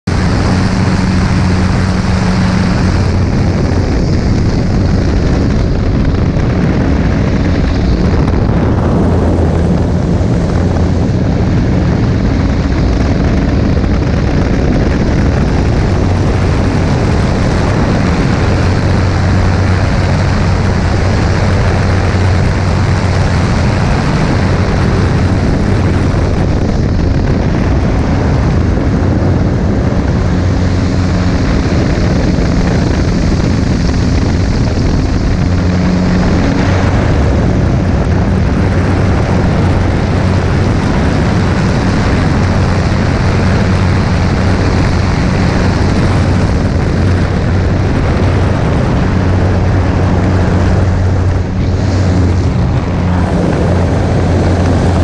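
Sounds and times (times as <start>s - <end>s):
airplane engine droning: 0.0s - 55.0s
wind rush: 0.0s - 55.0s.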